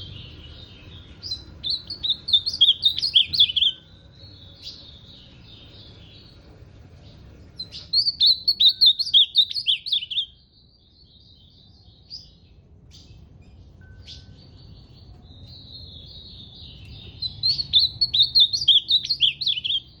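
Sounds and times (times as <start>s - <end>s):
bird singing warbling phrases: 0.0s - 6.4s, 7.0s - 20.0s
soft bird twittering: 0.0s - 20.0s.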